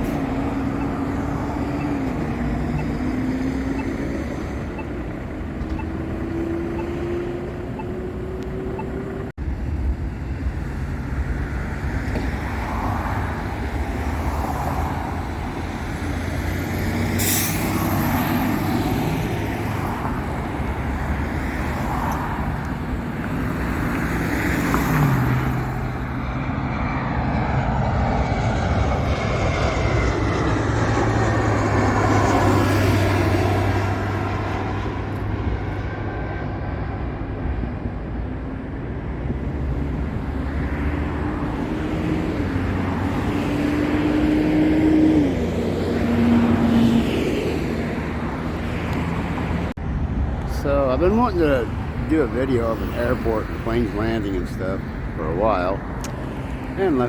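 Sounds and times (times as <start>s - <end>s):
traffic noise: 0.0s - 57.0s.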